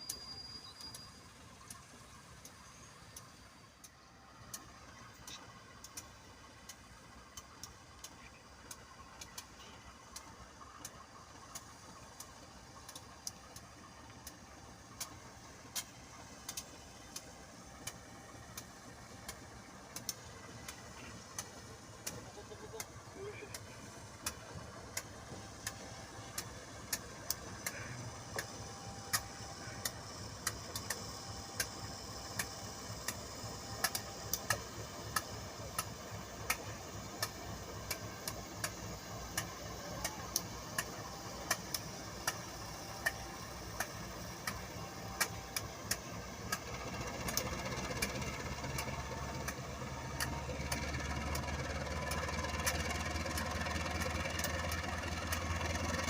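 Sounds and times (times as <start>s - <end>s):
engine running: 0.0s - 56.0s
sharp clicks: 0.0s - 56.0s.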